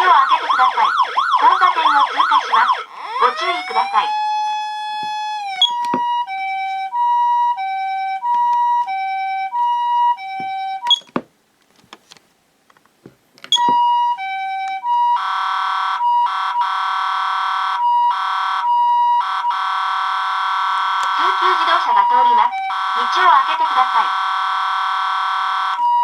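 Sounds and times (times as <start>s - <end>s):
two-tone ambulance siren: 0.0s - 11.0s, 13.6s - 26.0s.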